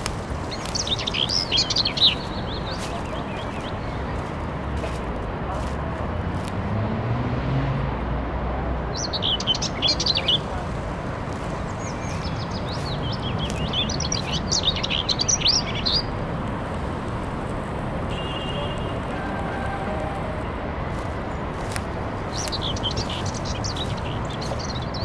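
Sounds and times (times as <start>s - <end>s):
small birds twittering: 0.0s - 6.5s, 8.9s - 25.0s.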